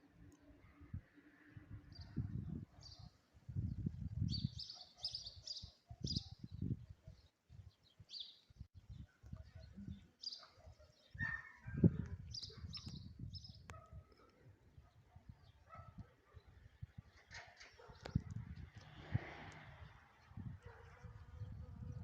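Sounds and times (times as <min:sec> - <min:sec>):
small birds chirping: 0:01.9 - 0:22.0.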